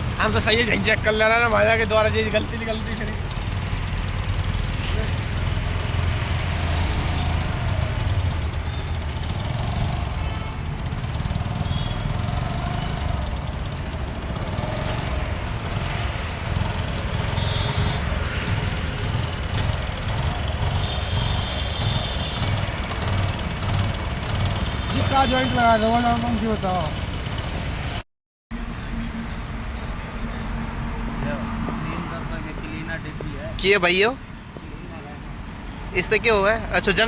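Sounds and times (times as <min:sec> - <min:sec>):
street traffic rumble: 0:00.0 - 0:37.0.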